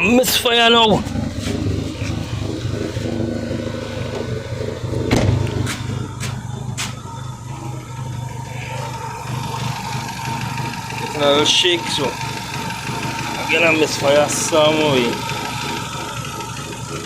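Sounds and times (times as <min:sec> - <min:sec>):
car engine idling unevenly: 0:00.0 - 0:17.0.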